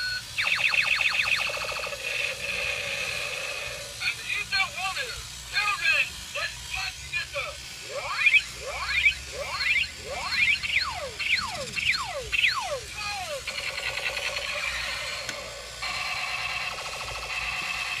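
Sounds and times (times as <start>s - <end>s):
buzzing electronic warble: 0.0s - 18.0s
toy robot laser sound effects: 0.0s - 18.0s.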